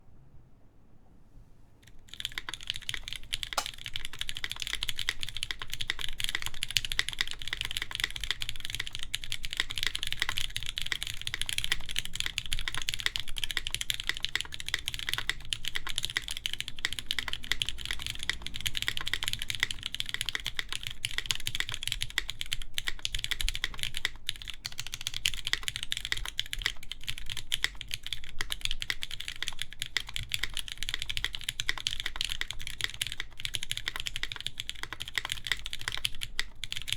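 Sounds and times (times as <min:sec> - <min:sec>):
mechanical keyboard typing: 0:01.9 - 0:36.9.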